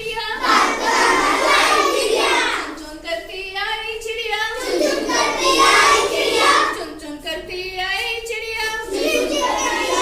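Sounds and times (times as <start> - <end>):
child singing nursery rhyme: 0.0 - 10.0.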